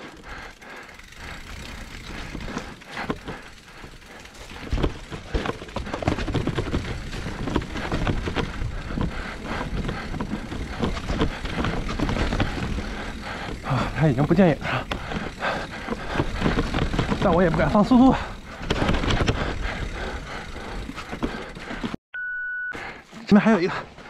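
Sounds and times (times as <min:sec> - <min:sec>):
bike rattling over bumps: 0:00.0 - 0:22.0
bike tyres rolling over dirt: 0:00.0 - 0:22.0.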